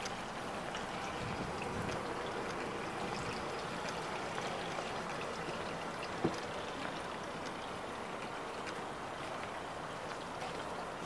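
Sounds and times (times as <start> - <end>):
water lapping against boats: 0.0 - 11.0.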